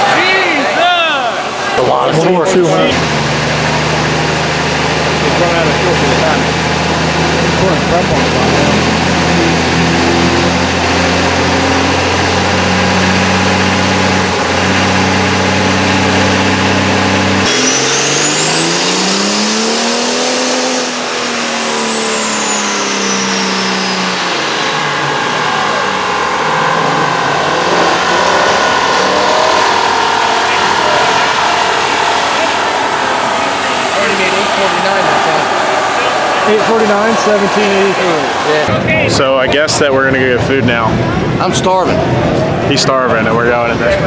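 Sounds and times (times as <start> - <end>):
high whine: 0.0 - 43.0
car engine running: 0.0 - 44.0
engine revving: 0.0 - 44.0.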